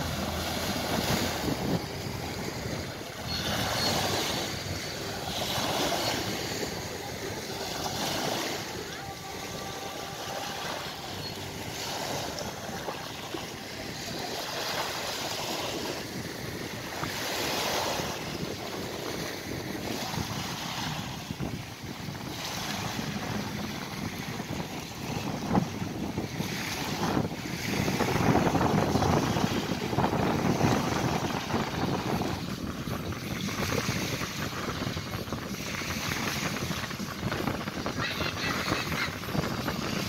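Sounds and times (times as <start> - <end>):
small waves washing on sand: 0.0 - 40.0
wind on microphone: 0.0 - 40.0.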